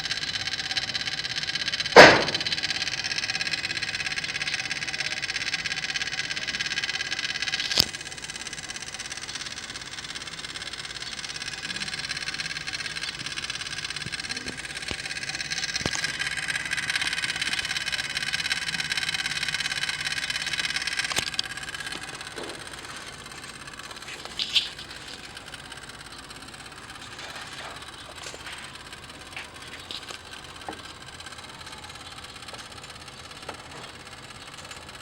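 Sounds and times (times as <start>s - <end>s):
rapid clicking in engine bay: 0.0s - 35.0s
sharp single ticks: 0.0s - 35.0s.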